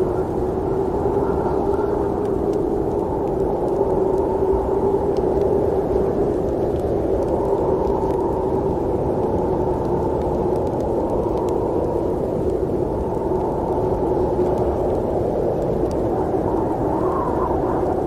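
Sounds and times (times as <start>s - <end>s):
snowstorm wind blowing: 0.0s - 18.0s.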